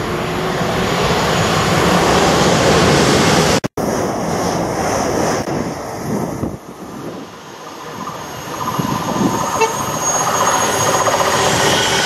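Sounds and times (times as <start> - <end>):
electric train passing at speed: 0.0 - 12.0.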